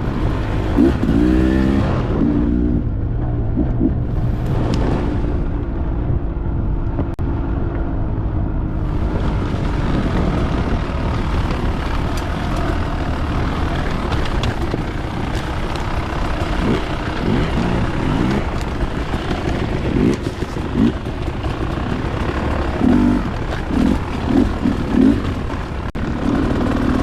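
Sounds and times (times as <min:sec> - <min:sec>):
dirt bike engine running: 0:00.0 - 0:27.0
steady rumbling noise: 0:00.0 - 0:27.0.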